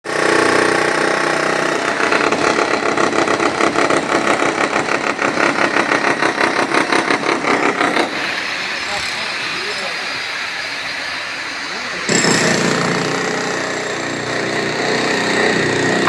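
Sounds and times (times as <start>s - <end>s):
concrete-cutting saw running: 0.1s - 16.0s.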